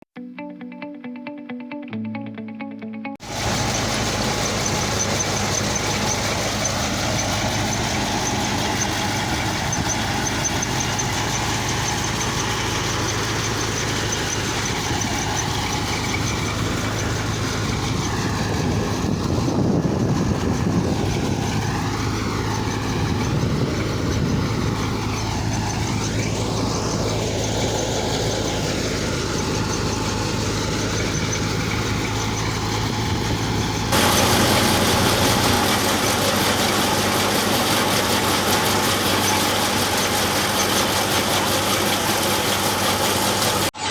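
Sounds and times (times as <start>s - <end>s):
engine running steadily: 3.2s - 43.9s.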